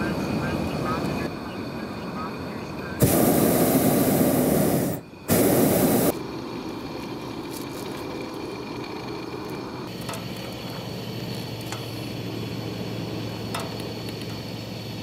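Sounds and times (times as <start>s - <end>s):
propane burner blasts: 0.0s - 15.0s.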